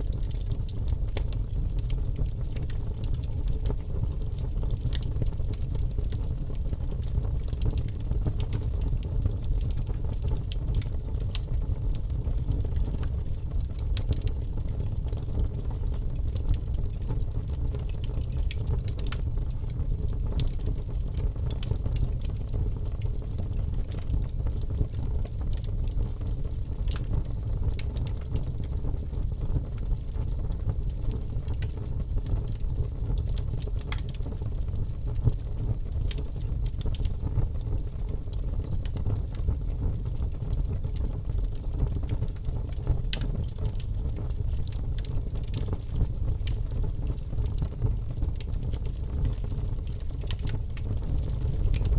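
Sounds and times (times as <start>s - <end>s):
burning logs crackling and popping: 0.0s - 51.9s
fire flames rumbling: 0.0s - 51.9s.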